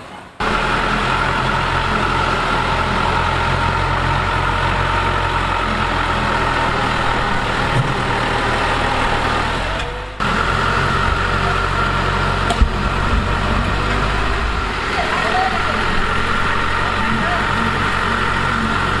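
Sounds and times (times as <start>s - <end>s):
heavy diesel engine running: 0.2s - 19.0s.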